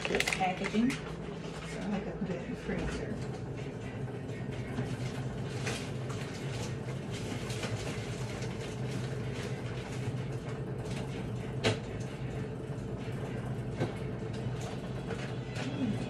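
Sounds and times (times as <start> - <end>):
low appliance hum: 0.0 - 16.0.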